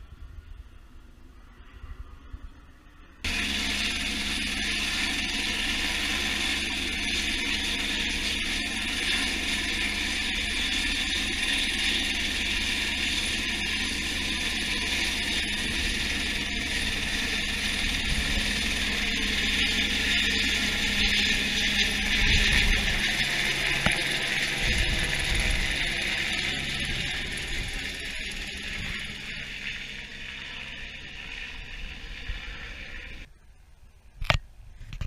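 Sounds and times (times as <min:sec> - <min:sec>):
helicopter rotor and turbine: 0:00.0 - 0:33.3.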